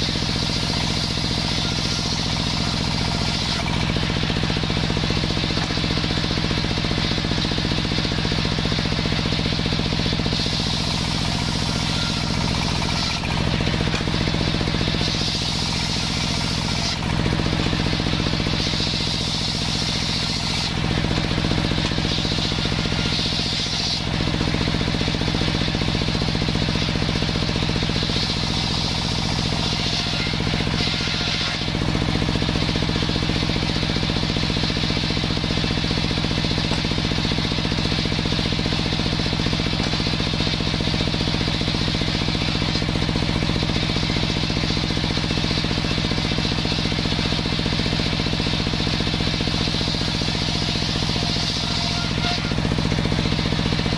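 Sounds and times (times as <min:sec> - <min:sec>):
saw blade cutting wood: 0:00.0 - 0:53.9
table saw drone: 0:00.0 - 0:53.9.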